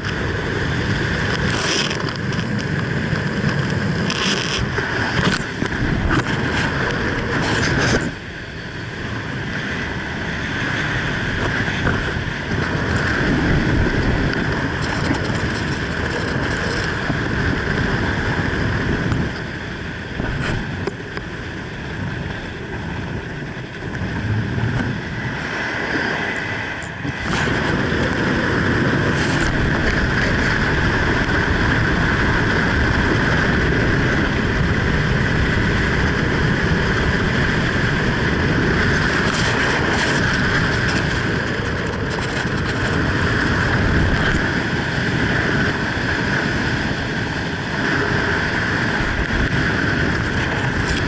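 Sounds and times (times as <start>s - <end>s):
wind rushing over microphone: 0.0s - 51.0s.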